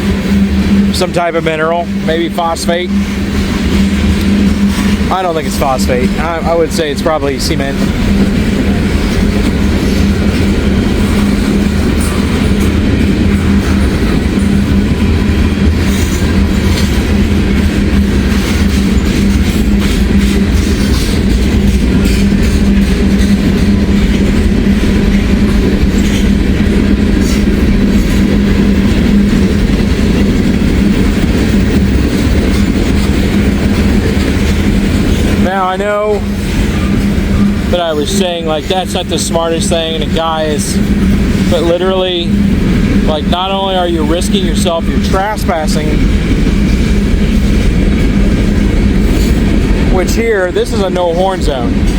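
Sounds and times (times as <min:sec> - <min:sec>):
constant hum: 0:00.0 - 0:51.9
train wheels rumbling on rail: 0:00.0 - 0:51.9.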